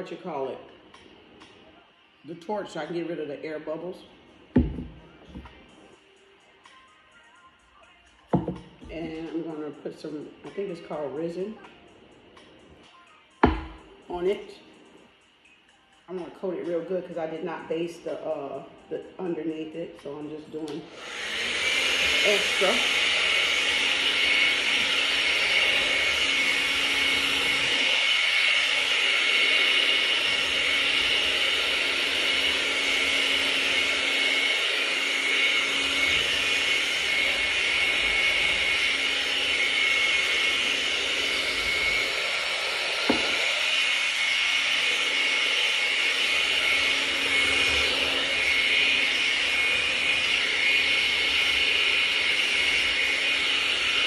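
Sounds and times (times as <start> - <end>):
hair dryer running: 0.0 - 6.8, 8.2 - 54.0.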